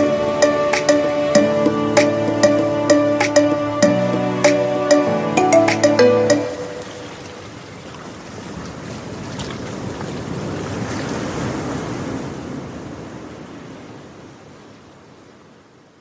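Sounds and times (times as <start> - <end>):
ocean surf washing ashore: 0.0 - 15.7.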